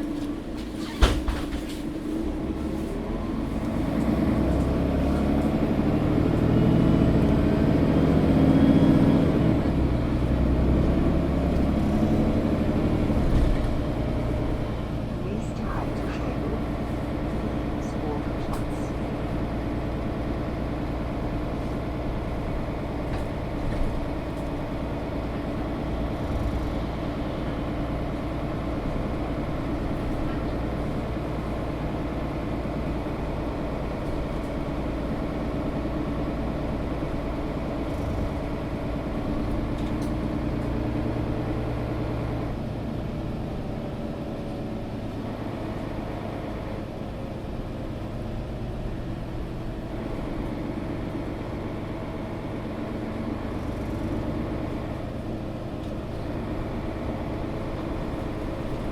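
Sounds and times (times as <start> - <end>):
bus diesel engine drone: 0.0 - 58.9
road rumble: 0.0 - 58.9.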